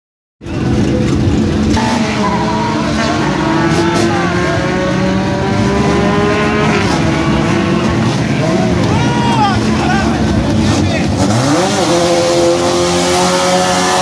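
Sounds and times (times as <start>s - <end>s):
racing car engine running loud: 0.4s - 14.0s.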